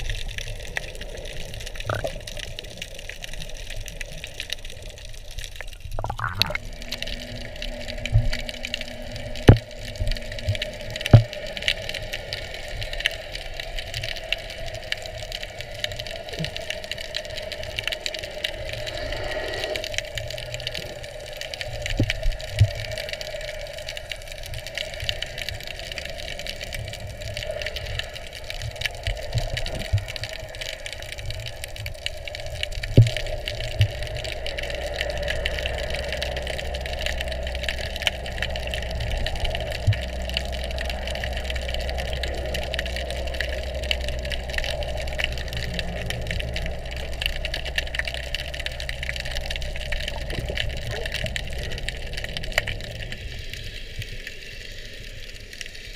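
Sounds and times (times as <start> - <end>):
underwater mechanical drone: 0.0 - 55.9.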